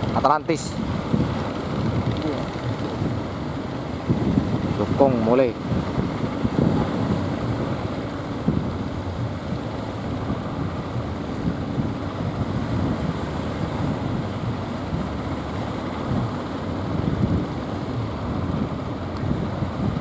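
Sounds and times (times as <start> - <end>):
boat engine running: 0.0 - 20.0
breaking surf: 0.0 - 20.0
wind buffeting microphone: 0.0 - 20.0.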